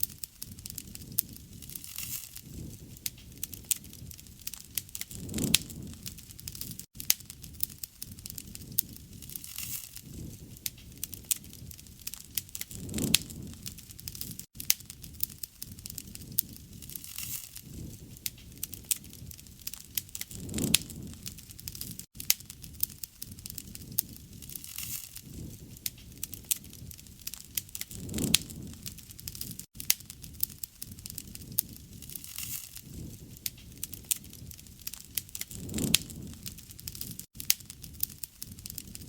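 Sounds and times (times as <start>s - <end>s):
fire popping and snapping: 0.0s - 39.0s
low rush of flame: 0.0s - 39.0s.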